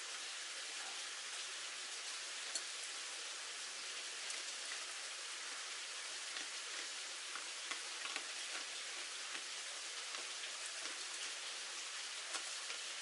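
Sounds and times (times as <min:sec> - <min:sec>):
light rain falling: 0:00.0 - 0:13.0
small drip-like ticks: 0:00.0 - 0:13.0.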